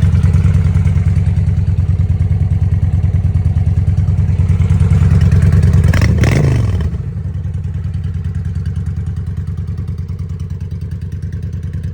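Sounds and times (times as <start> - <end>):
motorcycle engine revving and idling: 0.0 - 11.9.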